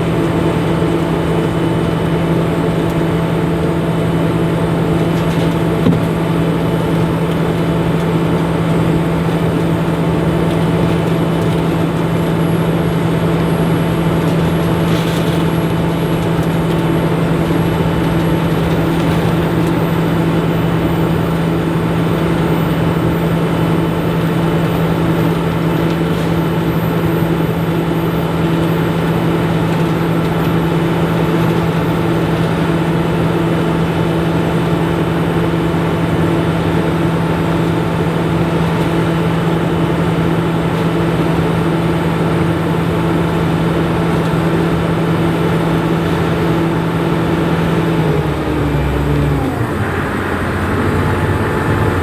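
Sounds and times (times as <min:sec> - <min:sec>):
combine harvester drone: 0:00.0 - 0:52.0.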